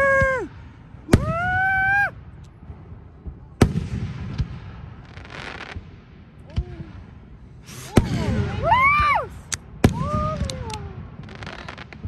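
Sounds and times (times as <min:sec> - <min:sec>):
firework crack: 0:00.0 - 0:12.0.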